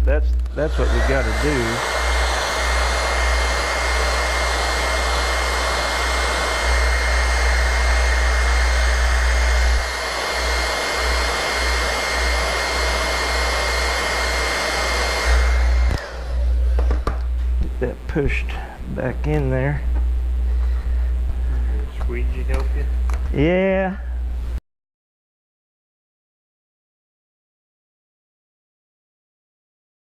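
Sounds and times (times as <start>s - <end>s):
heat gun fan whine: 0.1s - 24.6s.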